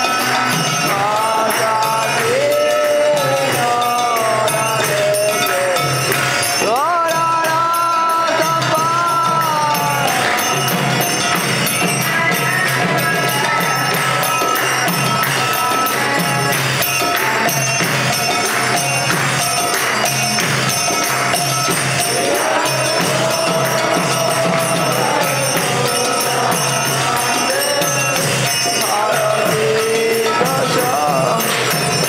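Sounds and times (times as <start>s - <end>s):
hand cymbals: 0.0s - 32.0s
hand drums: 0.0s - 32.0s
voices singing a melody: 0.0s - 32.0s.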